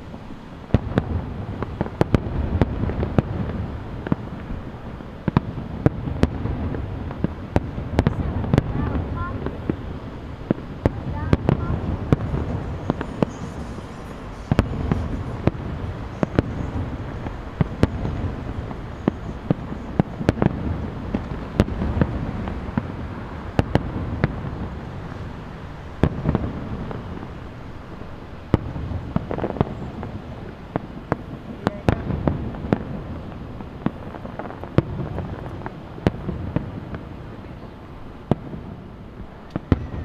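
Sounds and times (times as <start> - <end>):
fireworks bursting: 0.0 - 40.0.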